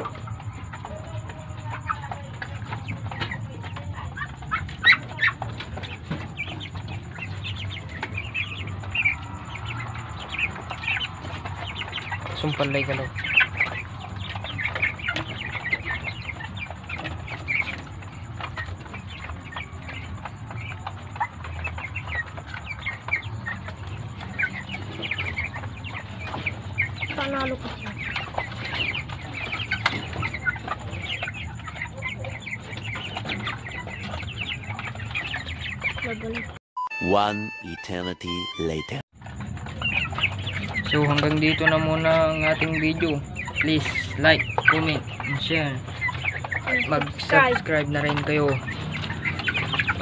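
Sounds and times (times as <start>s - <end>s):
chicks peeping and chirping: 0.0s - 50.0s.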